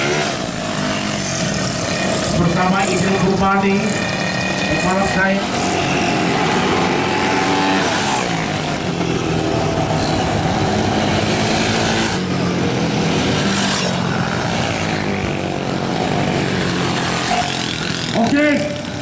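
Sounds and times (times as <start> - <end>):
scooter engines revving past: 0.0 - 19.0.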